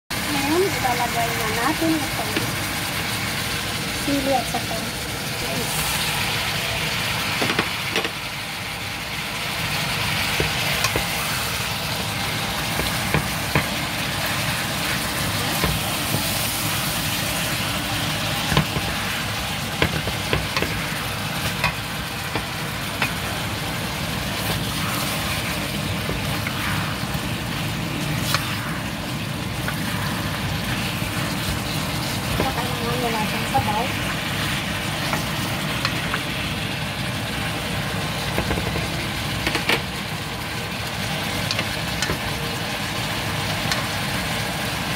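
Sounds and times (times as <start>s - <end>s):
food sizzling in a wok: 0.1s - 44.9s.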